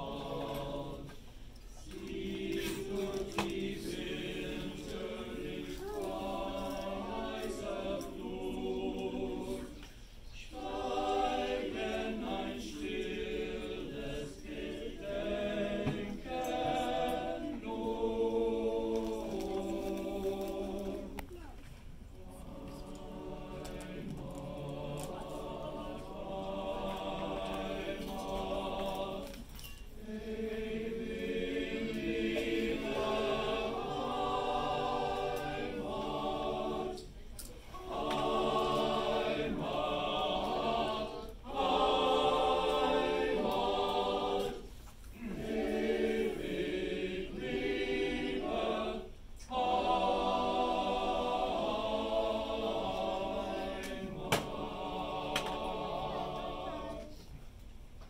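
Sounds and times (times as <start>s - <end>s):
men's choir singing: 0.0s - 21.2s, 22.2s - 57.2s.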